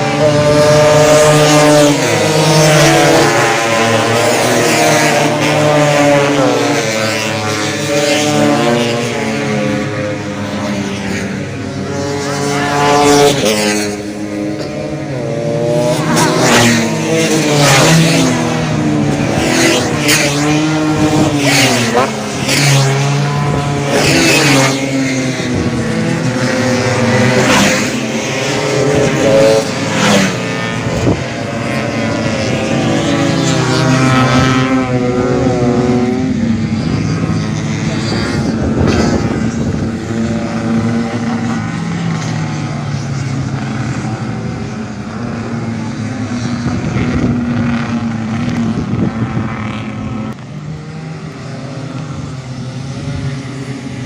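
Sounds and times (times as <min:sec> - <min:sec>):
scooter engines revving: 0:00.0 - 0:54.0.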